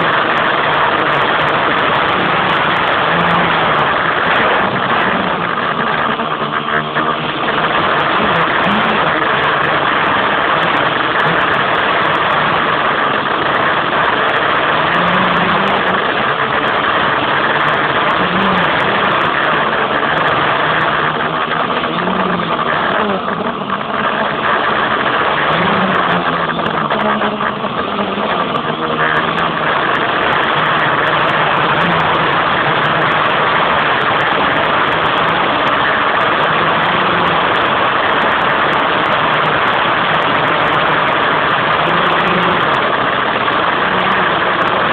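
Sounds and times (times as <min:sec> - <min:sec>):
drone motors buzzing: 0:00.0 - 0:44.9.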